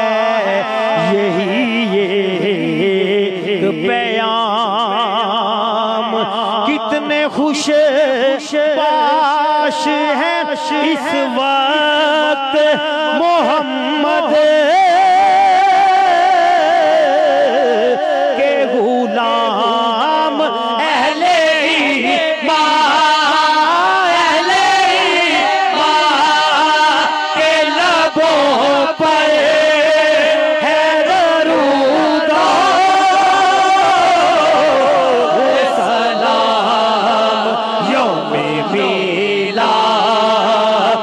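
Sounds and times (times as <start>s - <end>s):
man singing through microphone: 0.0s - 41.0s.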